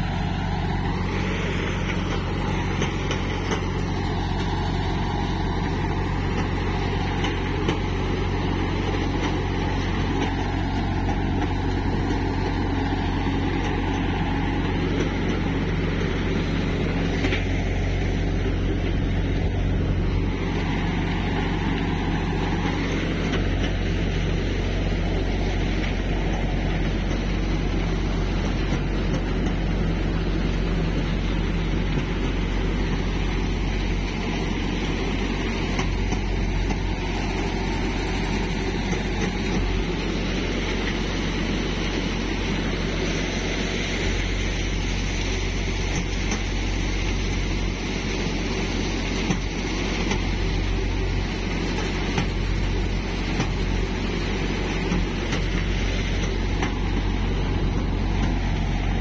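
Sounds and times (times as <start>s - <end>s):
thresher drum spinning: 0.0s - 59.0s
tractor engine running: 0.0s - 59.0s.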